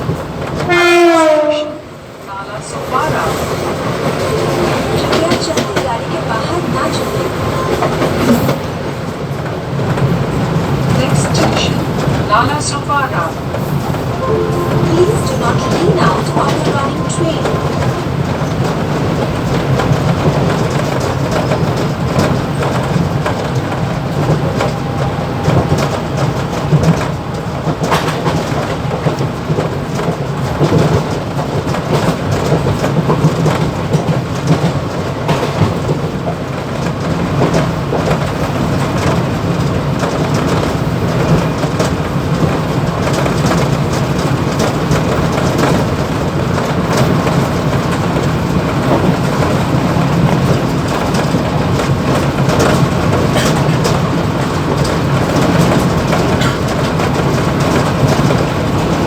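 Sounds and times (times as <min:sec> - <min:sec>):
train rumble and rail noise: 0:00.0 - 0:59.0.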